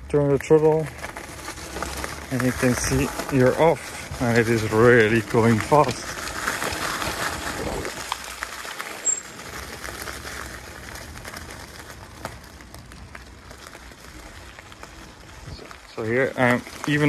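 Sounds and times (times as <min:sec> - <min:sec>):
bike tyres crunching on gravel: 0:00.0 - 0:17.0.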